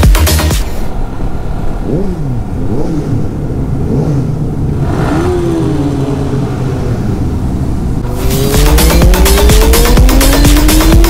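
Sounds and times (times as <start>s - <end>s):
motorcycle engine revving: 1.6s - 11.0s.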